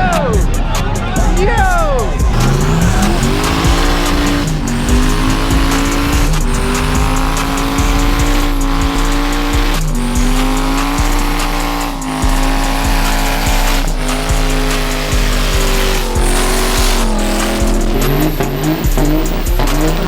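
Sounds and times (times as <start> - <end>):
diesel truck engine revving: 0.0 - 20.0.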